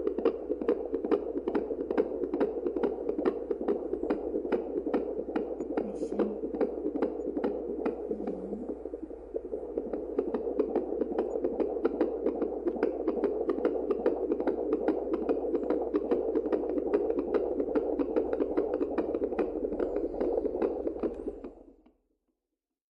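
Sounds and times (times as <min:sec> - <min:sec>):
low hum: 0:00.0 - 0:21.7
fast baby heartbeat: 0:00.0 - 0:21.9.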